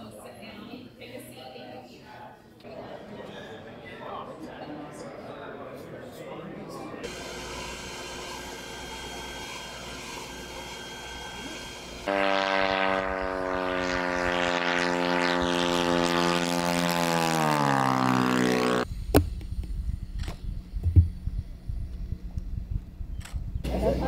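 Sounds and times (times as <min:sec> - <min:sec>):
aircraft engine drone: 0:03.1 - 0:24.0.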